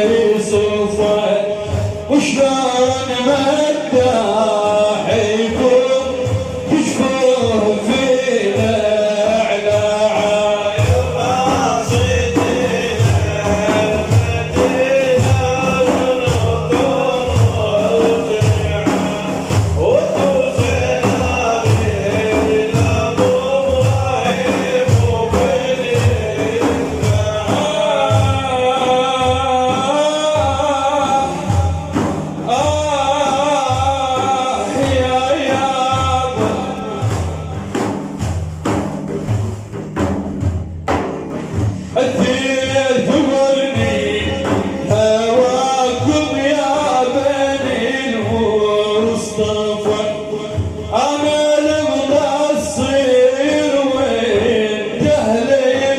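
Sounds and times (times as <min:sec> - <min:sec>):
frame drum beat: 0:00.0 - 0:55.9
men singing together: 0:00.0 - 0:55.9.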